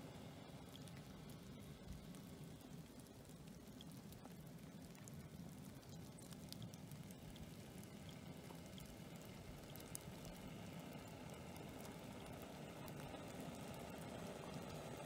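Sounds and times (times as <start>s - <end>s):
faint ticks: 0.0s - 15.0s.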